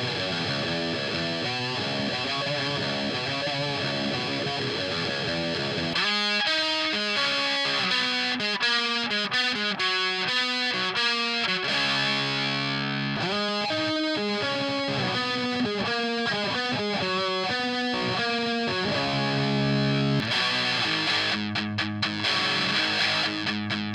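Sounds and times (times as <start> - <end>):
distorted electric guitar: 0.0 - 23.9.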